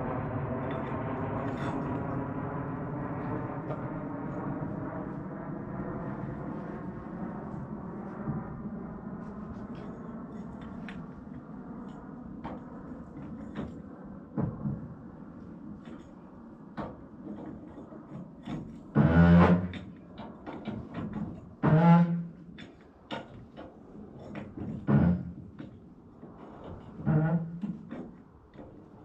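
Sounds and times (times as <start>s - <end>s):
engine-like hum: 0.0s - 29.0s.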